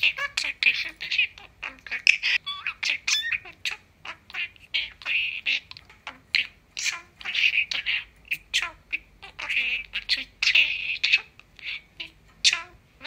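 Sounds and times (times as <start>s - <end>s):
budgerigar chattering: 0.0s - 12.8s.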